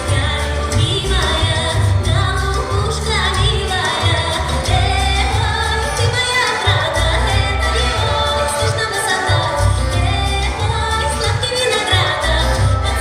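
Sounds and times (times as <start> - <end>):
woman singing pop song: 0.0 - 13.0.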